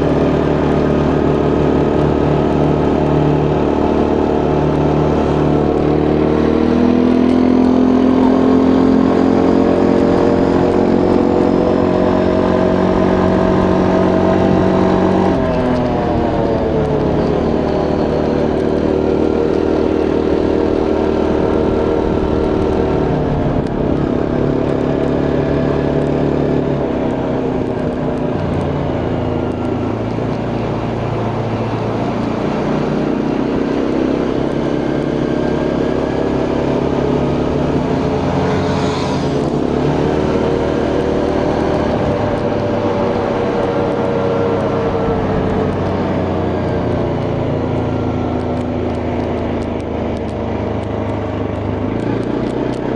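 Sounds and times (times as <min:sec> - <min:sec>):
quad bike engine running: 0:00.0 - 0:52.9.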